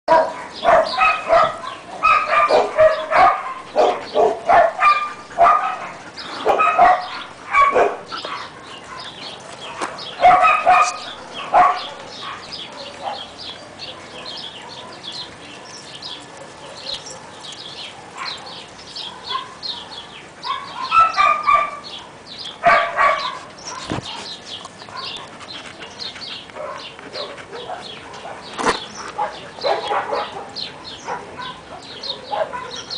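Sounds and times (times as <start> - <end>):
dogs barking and yipping: 0.1 - 32.9.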